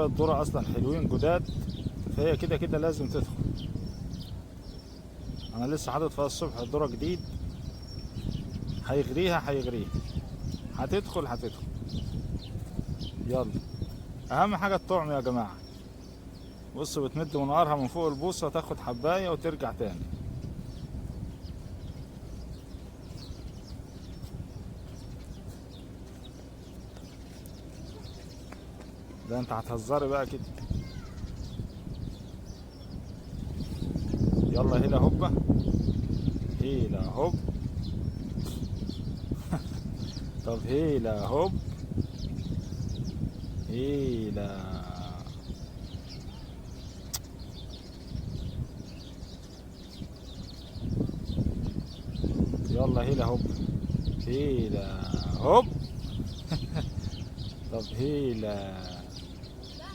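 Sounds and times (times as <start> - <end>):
low steady rumble: 0.0 - 59.9
small birds chirping: 0.0 - 59.9.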